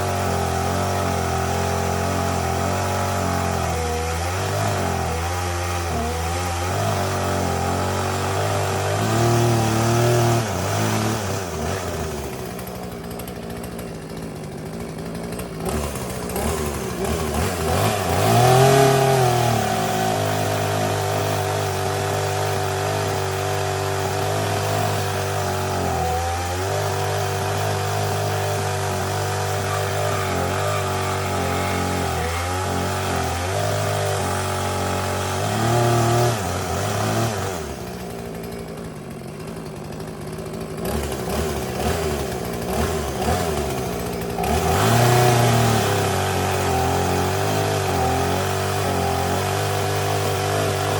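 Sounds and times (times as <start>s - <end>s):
chainsaw idling and revving: 0.0s - 50.9s.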